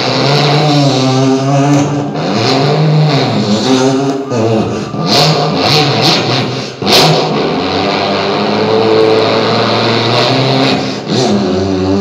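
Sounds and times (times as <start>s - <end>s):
man imitating motorbike engine: 0.0s - 12.0s.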